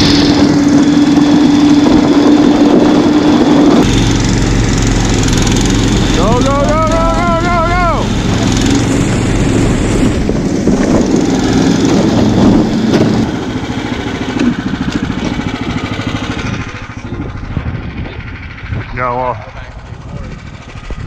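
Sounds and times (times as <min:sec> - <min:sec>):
small engine running under load: 0:00.0 - 0:21.0.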